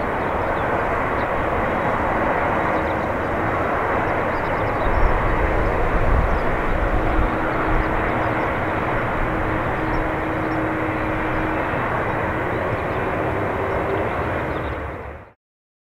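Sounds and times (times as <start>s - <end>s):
jet engines roaring: 0.0s - 15.4s.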